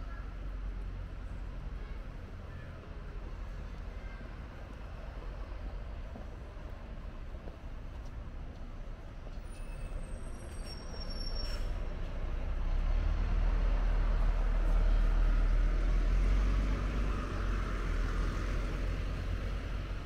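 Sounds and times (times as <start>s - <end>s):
bus engine rumble: 0.0s - 20.0s.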